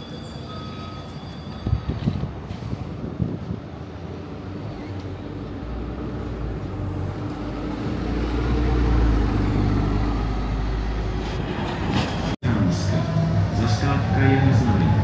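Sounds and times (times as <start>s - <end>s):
vehicle engine rumbling: 1.7s - 15.0s.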